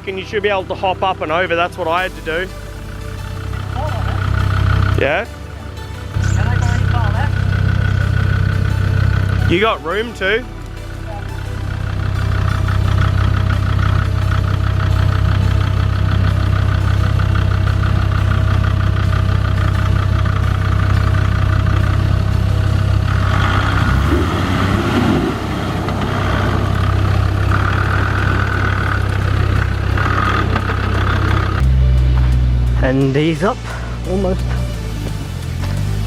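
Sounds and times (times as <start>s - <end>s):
off-road vehicle engine low revs: 0.0s - 36.0s.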